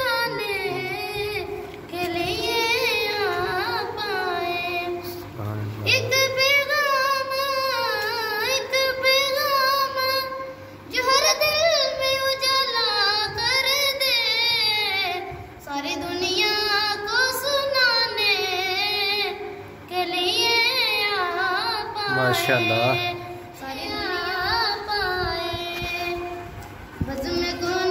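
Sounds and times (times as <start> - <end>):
boy singing solo: 0.0 - 27.9.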